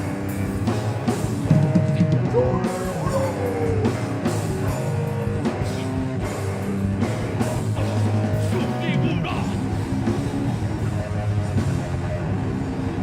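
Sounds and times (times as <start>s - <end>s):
heavy metal band playing live: 0.0s - 13.0s.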